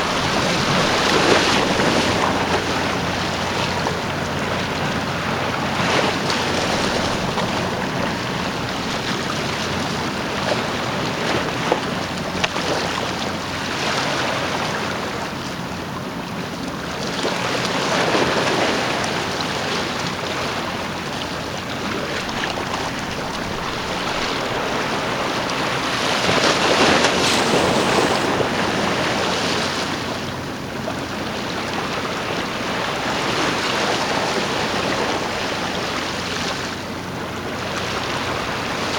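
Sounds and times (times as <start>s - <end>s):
wind buffeting microphone: 0.0s - 13.6s, 20.2s - 38.9s
boat engine drone: 0.0s - 38.9s
rushing water: 0.0s - 38.9s.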